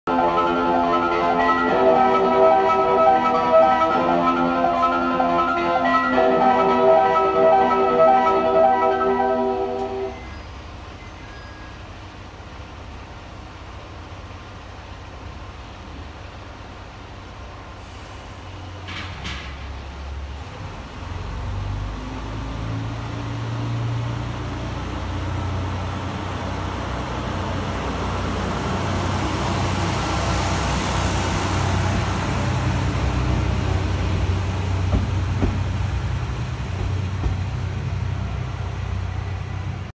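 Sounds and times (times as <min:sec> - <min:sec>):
diesel railcar engine revving: 0:00.1 - 0:39.9.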